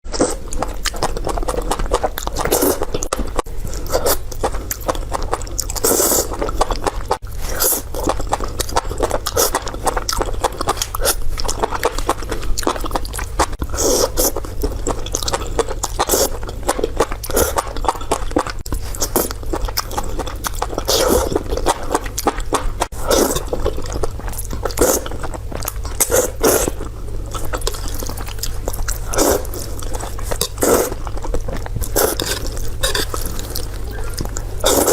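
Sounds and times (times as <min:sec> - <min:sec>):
low steady hum: 0:00.1 - 0:34.9
person chewing crunchy food: 0:00.1 - 0:34.9.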